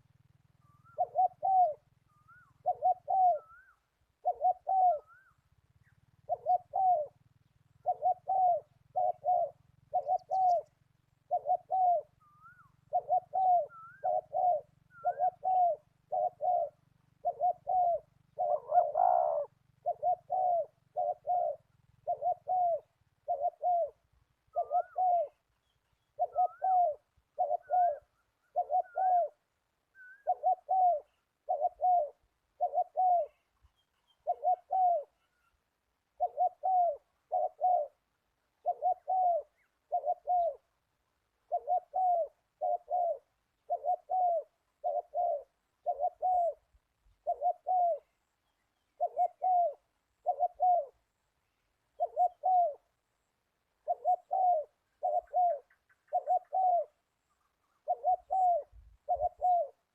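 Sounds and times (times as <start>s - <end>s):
dove cooing: 0.0s - 51.2s, 51.9s - 59.9s.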